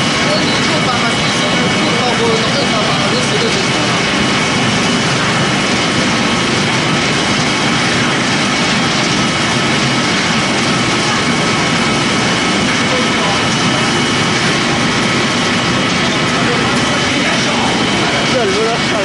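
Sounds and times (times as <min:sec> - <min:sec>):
loud machine noise: 0:00.0 - 0:19.0.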